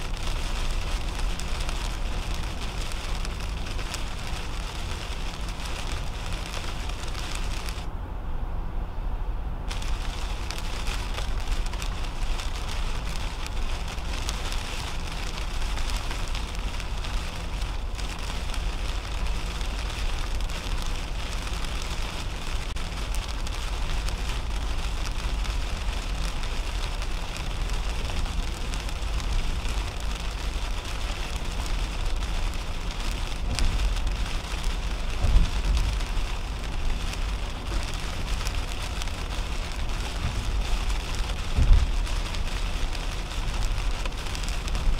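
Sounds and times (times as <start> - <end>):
rain on windshield and roof: 0.0 - 7.9, 9.7 - 44.9
tyre noise and road rumble: 0.0 - 44.9.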